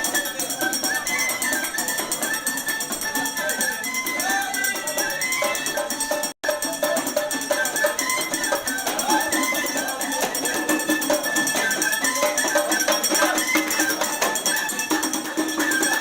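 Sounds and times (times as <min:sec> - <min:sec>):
jingling percussion: 0:00.0 - 0:16.0.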